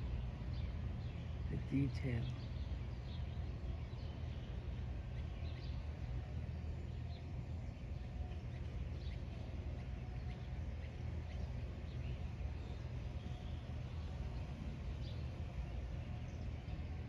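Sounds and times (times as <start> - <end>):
faint bird chirps: 0.0 - 17.0
steady low rumble: 0.0 - 17.0.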